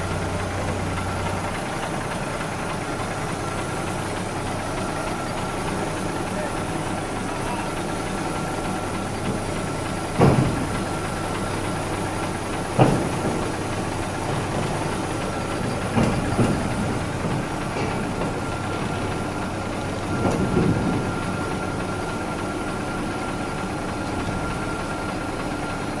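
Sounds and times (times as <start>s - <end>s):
diesel engine running: 0.0s - 26.0s
thin steady whine: 0.0s - 26.0s.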